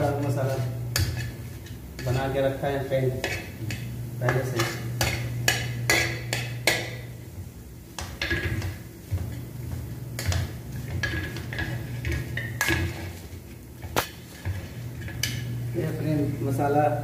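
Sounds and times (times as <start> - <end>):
spoon scraping frying pan: 0.0 - 7.0, 8.1 - 15.8.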